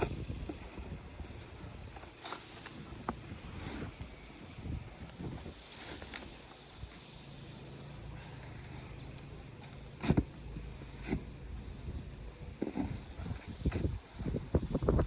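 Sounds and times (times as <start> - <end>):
snow shovel scraping ground: 0.0 - 7.2, 8.6 - 11.6, 12.6 - 15.0.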